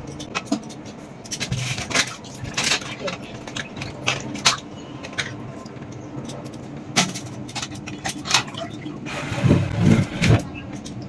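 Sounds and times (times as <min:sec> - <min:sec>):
water sloshing and splashing: 0:00.2 - 0:11.0.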